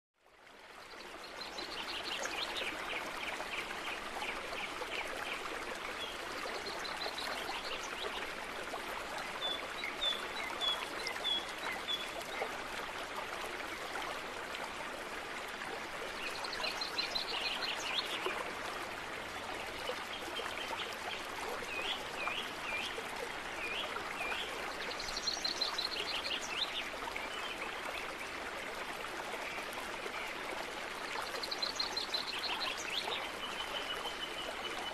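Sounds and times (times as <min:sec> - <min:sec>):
flowing stream water: 0:00.2 - 0:34.9.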